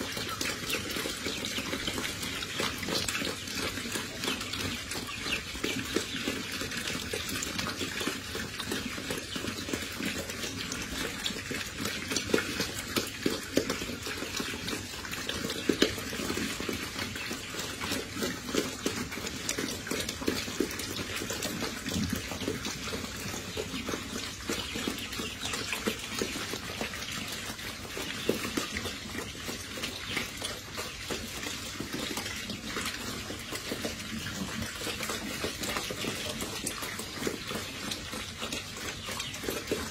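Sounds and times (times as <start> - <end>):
pigs chewing: 0.0 - 39.9.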